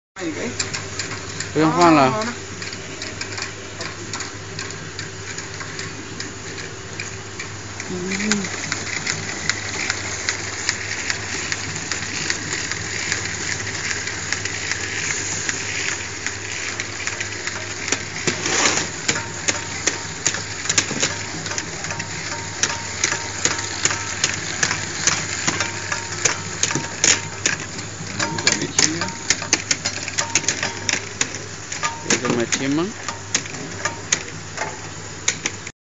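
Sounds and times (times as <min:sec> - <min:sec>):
labeling machine hum: 0:00.2 - 0:35.7.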